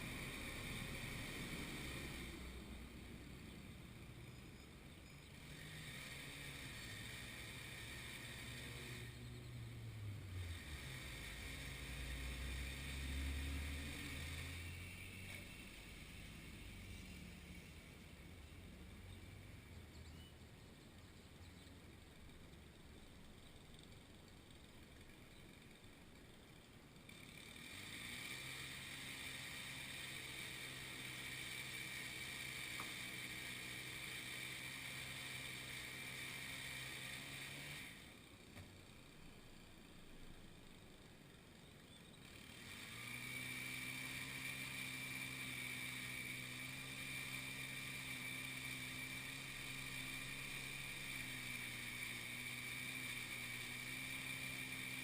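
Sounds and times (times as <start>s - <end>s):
motor-driven machine spinning: 0.0s - 19.8s, 21.5s - 55.0s
low engine hum: 0.0s - 55.0s.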